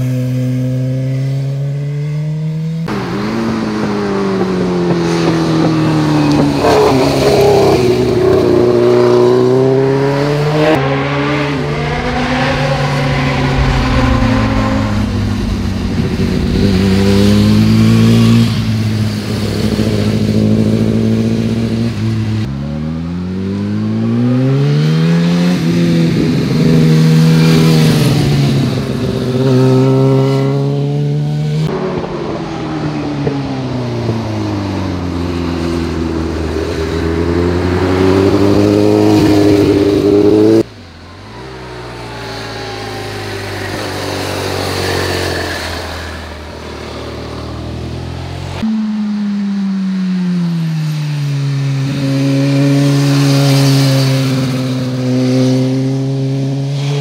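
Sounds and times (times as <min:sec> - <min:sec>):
motorcycles passing and revving: 0:00.0 - 0:57.0.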